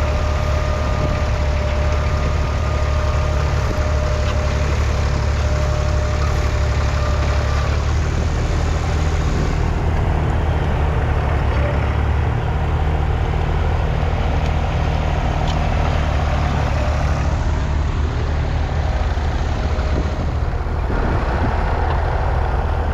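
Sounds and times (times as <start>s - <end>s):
tractor diesel engine rumbling: 0.0s - 22.9s.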